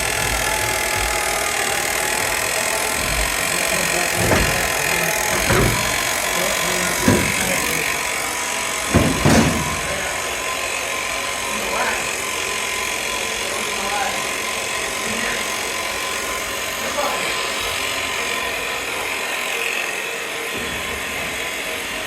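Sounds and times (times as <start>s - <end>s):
machine drone: 0.0s - 22.0s.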